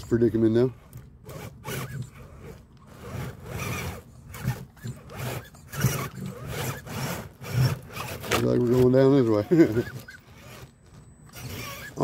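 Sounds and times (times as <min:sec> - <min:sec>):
electric motor and gears whirring: 0:00.0 - 0:12.0.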